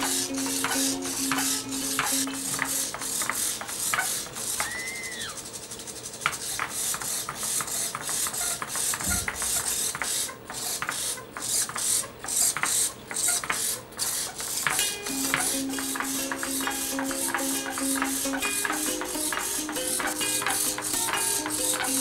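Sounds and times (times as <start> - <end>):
servo motors whirring: 0.0 - 22.0.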